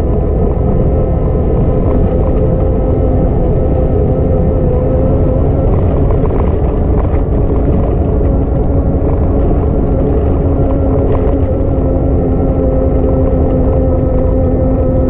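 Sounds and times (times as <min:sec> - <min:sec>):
steady hum: 0:00.0 - 0:15.0
wind buffeting microphone: 0:00.0 - 0:15.0.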